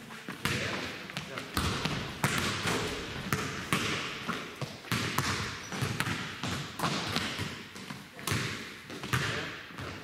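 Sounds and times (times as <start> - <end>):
basketballs bouncing on gym floor: 0.3 - 10.0.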